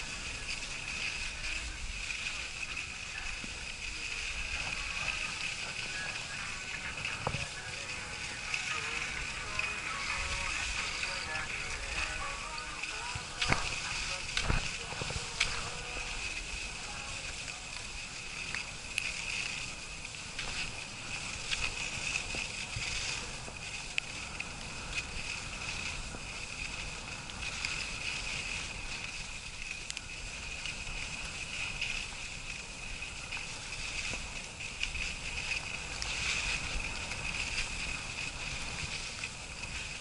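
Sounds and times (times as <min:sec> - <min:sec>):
skis sliding over snow: 0:00.0 - 0:40.0.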